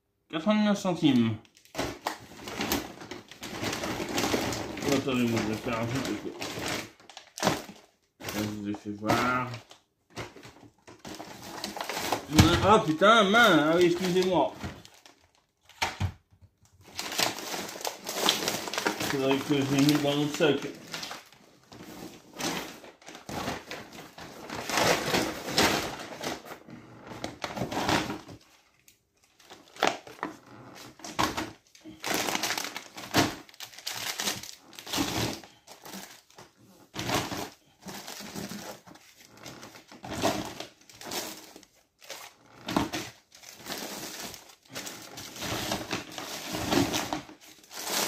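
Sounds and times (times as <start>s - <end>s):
bags and packaging rustling: 1.0s - 15.8s, 16.8s - 48.0s.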